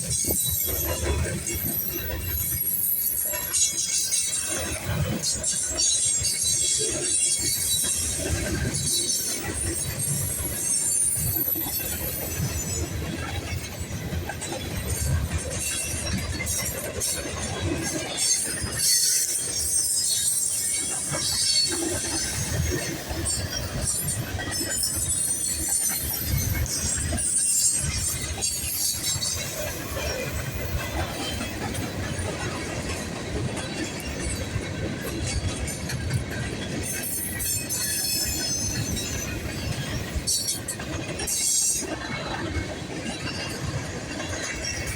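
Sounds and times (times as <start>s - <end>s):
freight train rumbling: 0.0s - 44.9s.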